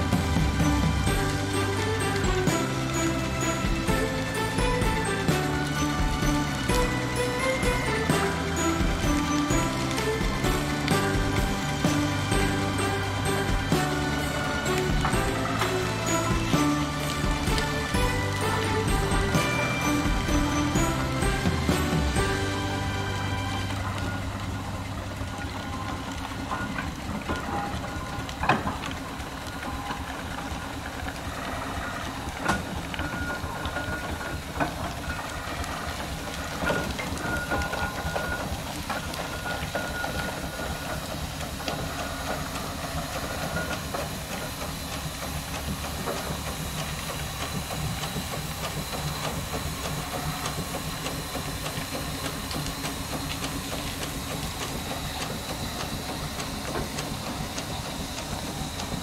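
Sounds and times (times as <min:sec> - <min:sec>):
steam engine hissing and clattering: 0:00.0 - 0:59.0.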